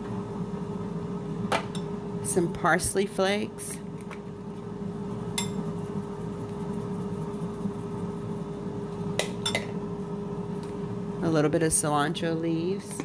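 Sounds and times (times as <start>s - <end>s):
air fryer humming: 0.0s - 13.0s.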